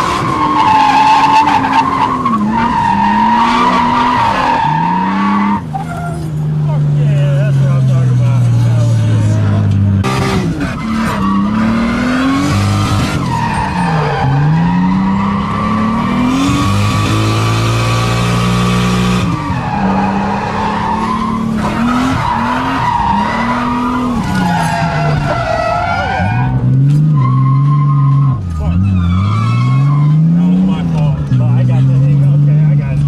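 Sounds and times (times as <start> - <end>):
tyres squealing and skidding: 0.0 - 6.8, 10.1 - 31.0
car engine revving: 0.0 - 33.0.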